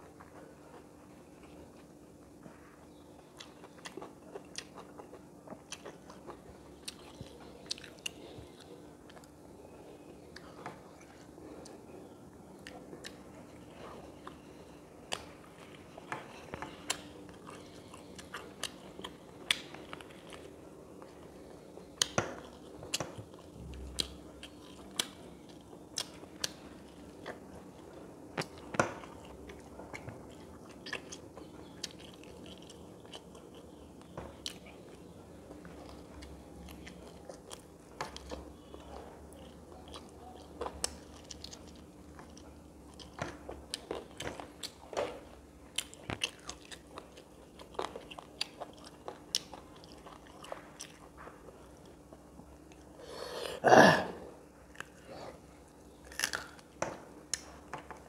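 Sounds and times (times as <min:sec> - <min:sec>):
food crunching: 0:00.0 - 0:53.0, 0:54.4 - 0:58.0
person chewing and biting food: 0:00.0 - 0:53.0, 0:54.6 - 0:58.0
faint steady hum: 0:00.0 - 0:58.0.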